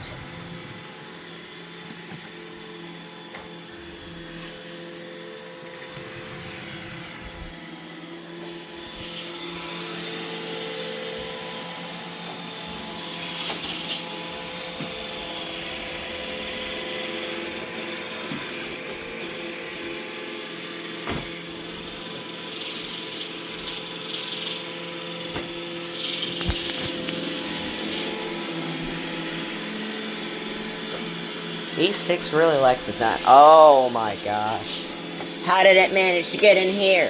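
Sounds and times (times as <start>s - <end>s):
robot vacuum humming: 0.0s - 37.0s.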